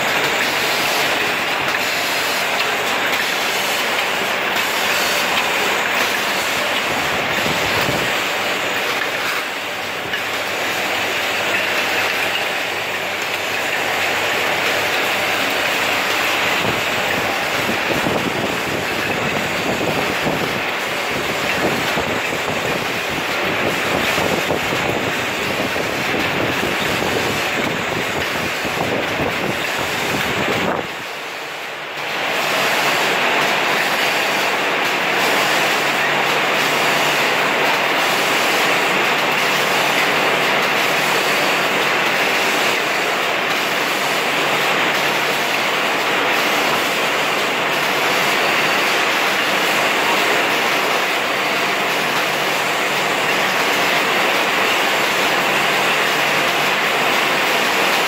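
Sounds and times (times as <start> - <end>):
cap printing machine clattering: 0.0 - 58.0.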